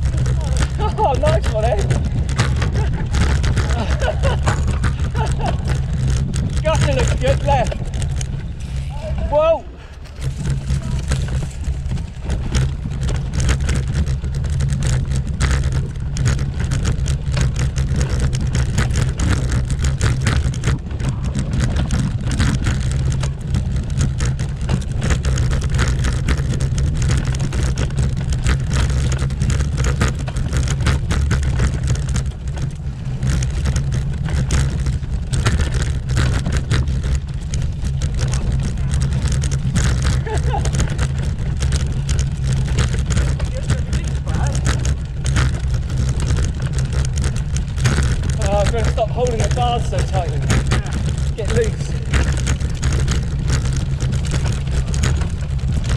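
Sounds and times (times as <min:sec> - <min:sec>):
bicycle rattling over cobblestones: 0:00.0 - 0:55.9.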